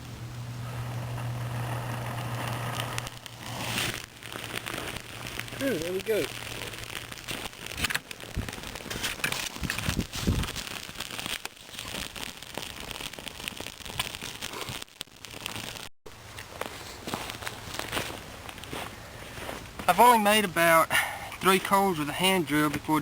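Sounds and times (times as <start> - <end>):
dry tinder crackling and snapping: 0.4 - 20.0.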